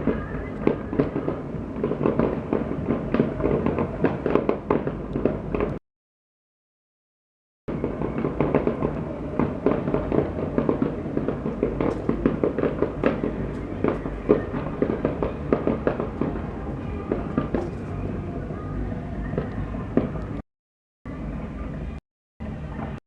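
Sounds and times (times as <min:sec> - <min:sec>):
fireworks crackling and popping: 0:00.0 - 0:05.8, 0:07.7 - 0:20.4.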